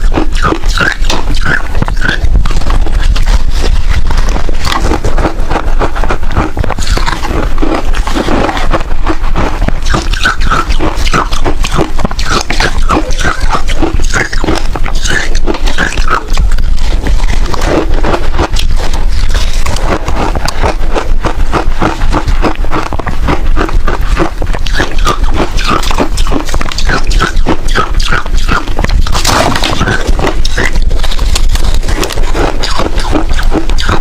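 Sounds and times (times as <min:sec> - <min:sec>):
chewing ice crunching: 0:00.0 - 0:34.0
wet mouth sounds: 0:00.0 - 0:34.0.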